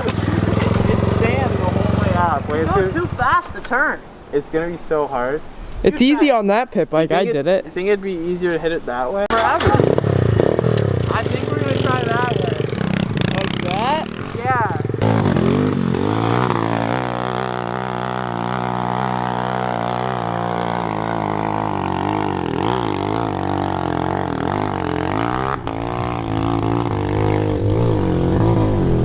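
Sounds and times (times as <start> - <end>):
pit bike engine droning: 0.0 - 3.8, 7.8 - 29.0.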